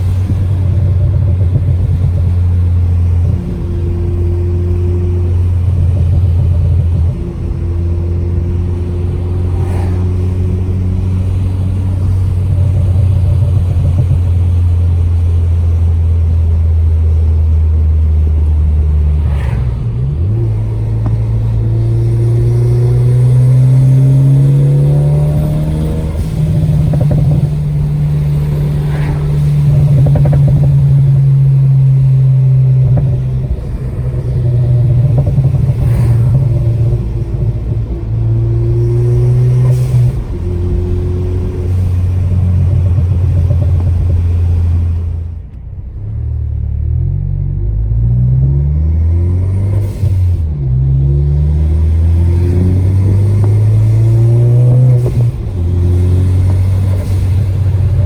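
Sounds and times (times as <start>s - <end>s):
exhaust pops: 0.0s - 46.3s, 49.4s - 58.0s
car engine revving: 0.0s - 58.0s.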